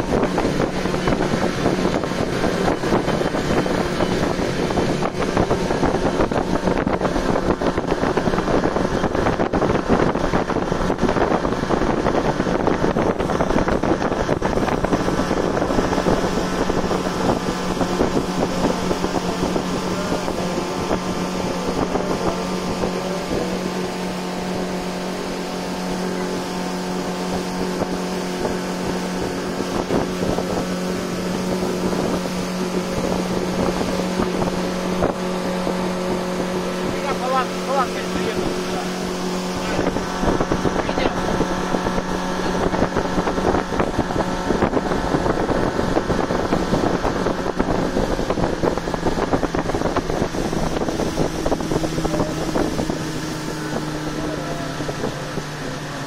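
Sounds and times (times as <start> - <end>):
motorboat engine humming: 0.0 - 56.0
rushing water: 0.0 - 56.0
wind buffeting microphone: 0.0 - 56.0.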